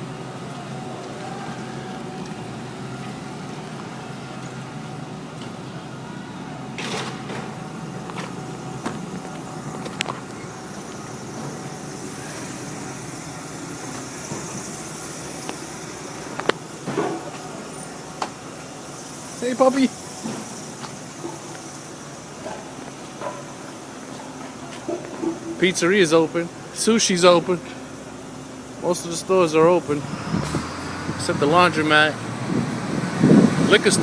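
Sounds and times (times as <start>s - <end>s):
road traffic: 0.0s - 34.0s
vehicle passing hiss: 5.9s - 34.0s.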